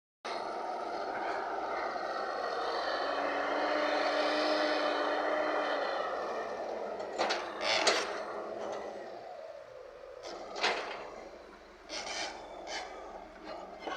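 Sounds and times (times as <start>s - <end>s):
heavy machinery diesel engines: 0.3s - 13.9s.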